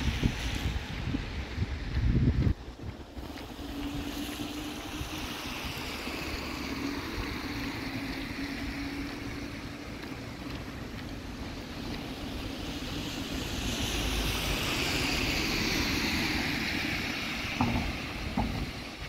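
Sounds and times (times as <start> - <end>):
car tyres on wet road: 0.0 - 19.0
rain hiss: 0.0 - 19.0
wind buffeting microphone: 0.0 - 19.0.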